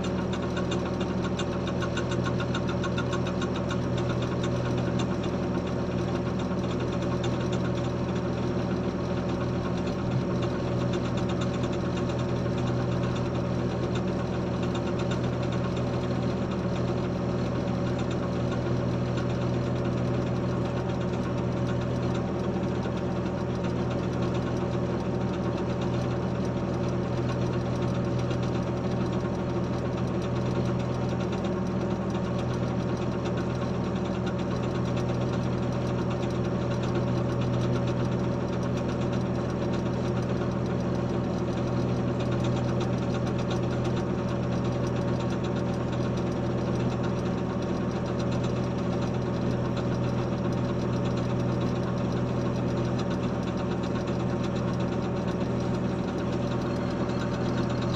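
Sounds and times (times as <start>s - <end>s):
diesel engine running steadily: 0.0s - 57.9s.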